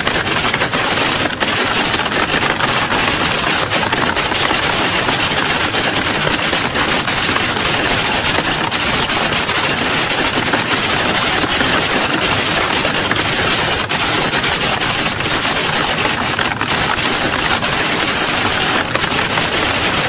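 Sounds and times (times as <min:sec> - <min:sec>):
many keyboards typing: 0:00.0 - 0:20.0.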